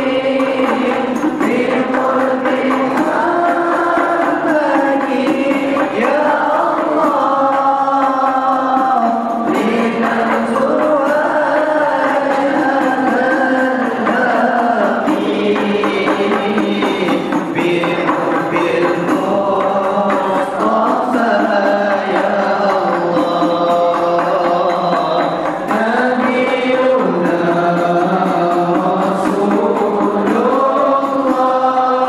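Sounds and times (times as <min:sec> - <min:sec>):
chorus singing in unison: 0:00.0 - 0:32.0.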